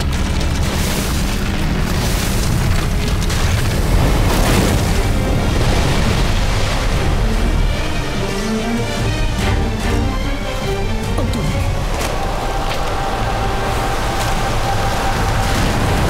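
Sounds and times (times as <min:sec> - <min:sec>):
dramatic orchestral film score: 0:00.0 - 0:16.0
heavy pouring rain: 0:00.0 - 0:16.0.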